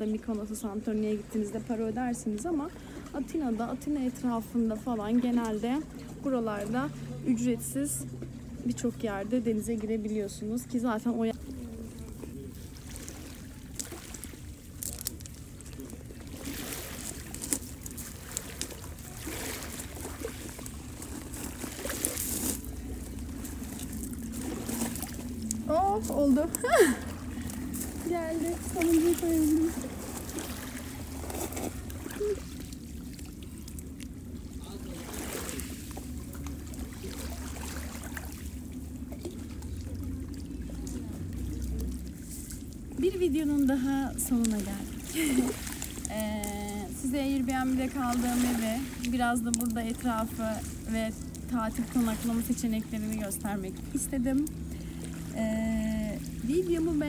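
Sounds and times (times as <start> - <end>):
low steady rumble: 0.0 - 57.0
small waves lapping on rocks: 0.0 - 57.0.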